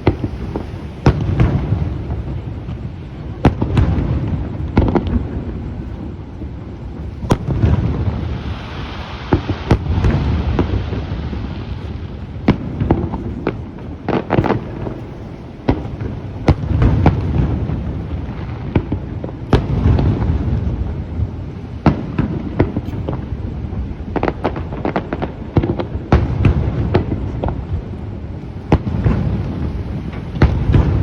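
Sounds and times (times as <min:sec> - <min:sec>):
fireworks sharp cracks: 0:00.0 - 0:31.0
rolling rumble of booms: 0:00.0 - 0:31.0.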